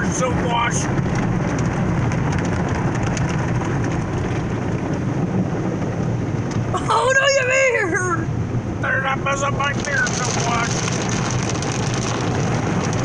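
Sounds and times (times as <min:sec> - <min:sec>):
car wash water rushing: 0:00.0 - 0:13.0
deep rumble: 0:00.0 - 0:13.0.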